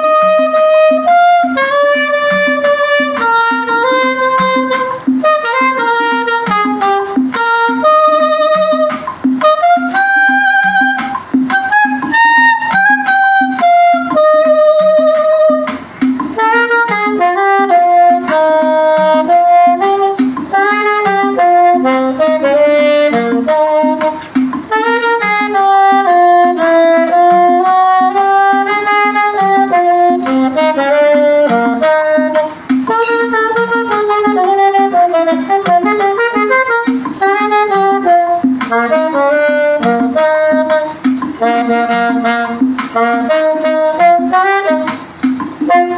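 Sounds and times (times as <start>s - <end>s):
backing accompaniment: 0.0s - 45.9s
saxophone playing a slow hymn: 0.0s - 45.9s.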